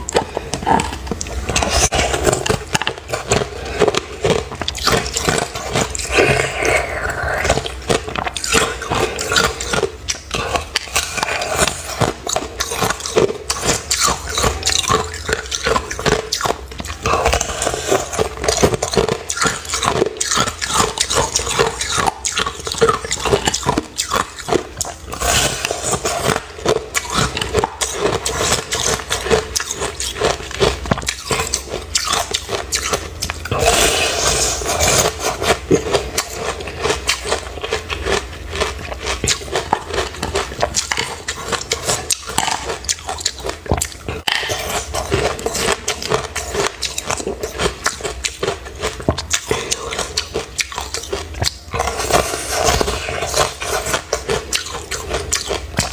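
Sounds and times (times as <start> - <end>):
chewing crunchy ice: 0.0 - 55.9.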